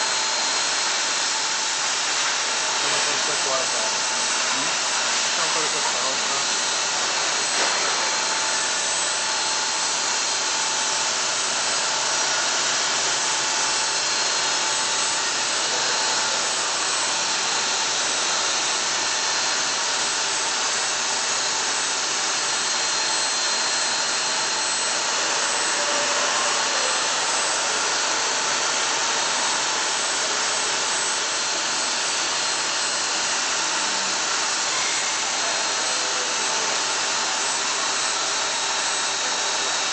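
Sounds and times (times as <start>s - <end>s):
machine bit grinding stone: 0.1s - 39.9s.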